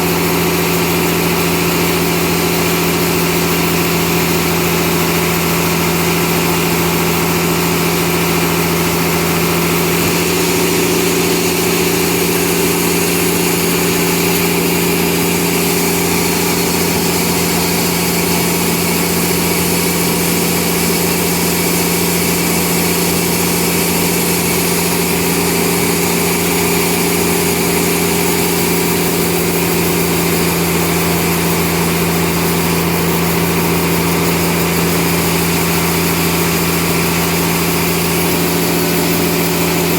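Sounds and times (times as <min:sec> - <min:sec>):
sawmill machinery hum and hiss: 0:00.0 - 0:39.9.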